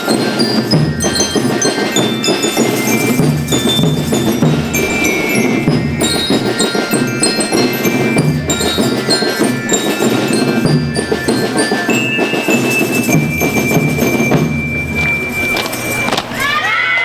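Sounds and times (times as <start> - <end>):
bell lyre notes: 0.0 - 16.6
drums keeping a beat: 0.0 - 16.6
long steady high tone: 0.0 - 16.6.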